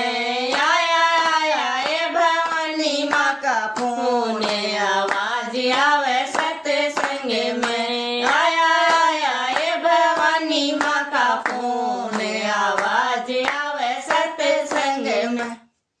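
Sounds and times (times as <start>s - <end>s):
hand claps: 0.0s - 15.6s
woman singing devotional song: 0.0s - 15.7s.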